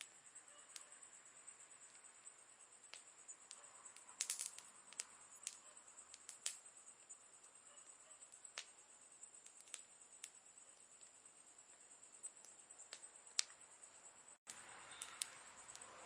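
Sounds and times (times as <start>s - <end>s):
campfire crackling with pops: 0.0s - 16.0s.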